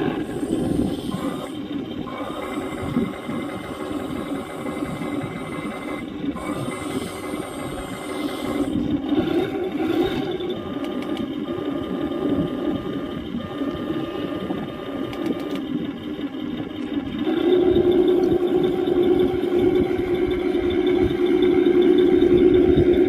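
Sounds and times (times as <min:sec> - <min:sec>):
electric motor whine: 0:00.0 - 0:23.0
toy tank mechanical clatter: 0:00.0 - 0:23.0.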